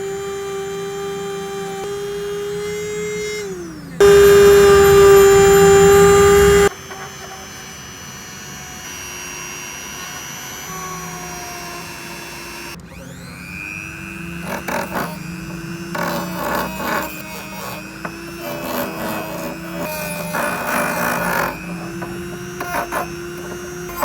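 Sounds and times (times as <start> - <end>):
power tool grinding metal: 0.0 - 24.0.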